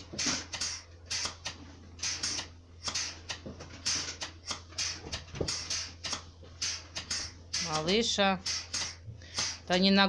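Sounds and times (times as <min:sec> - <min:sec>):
pulsators hissing and clicking: 0:00.0 - 0:09.8.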